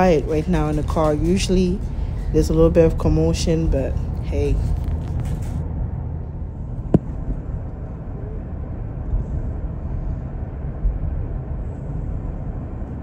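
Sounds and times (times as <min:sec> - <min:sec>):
car cabin road rumble: 0:00.0 - 0:11.6.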